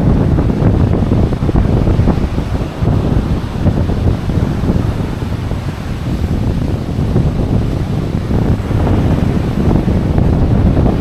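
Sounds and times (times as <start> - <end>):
beach surf: 0.0 - 11.0
wind buffeting microphone: 0.0 - 11.0.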